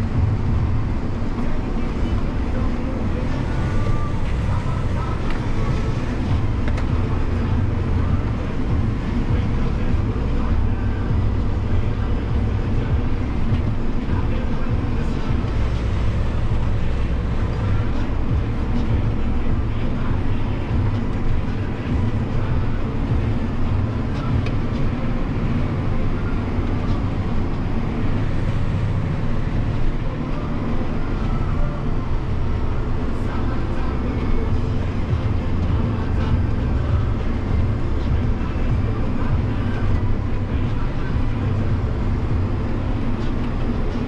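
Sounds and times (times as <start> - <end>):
tractor engine rumbling in cab: 0.0 - 44.0.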